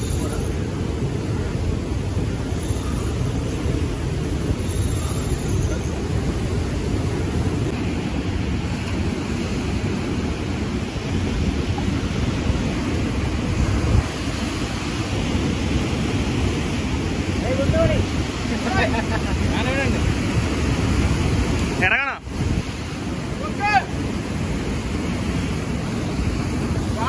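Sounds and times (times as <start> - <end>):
sea surf: 0.0 - 27.0
wind rumble on microphone: 0.0 - 27.0.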